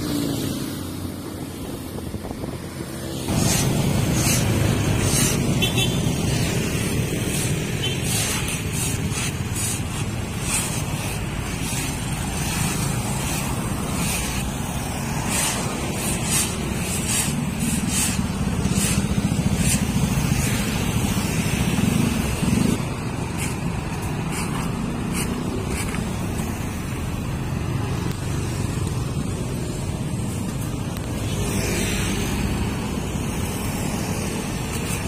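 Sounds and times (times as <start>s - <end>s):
traffic engine rumble: 0.0s - 35.0s
rake scraping asphalt: 3.3s - 29.1s, 30.0s - 35.0s.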